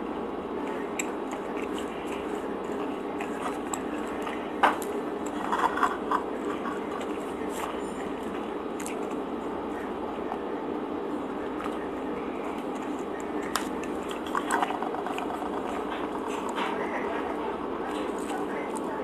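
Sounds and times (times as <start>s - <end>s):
chewing bread: 0.0s - 19.0s
steady background hum: 0.0s - 19.0s.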